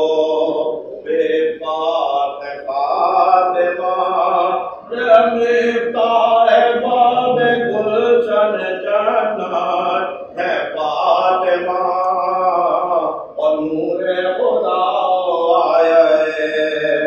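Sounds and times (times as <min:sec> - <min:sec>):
man chanting religious recitation: 0:00.0 - 0:17.0.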